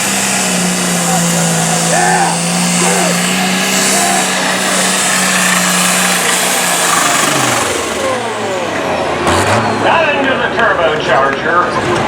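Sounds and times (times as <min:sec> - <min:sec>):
diesel tractor engine at full power: 0:00.0 - 0:12.0.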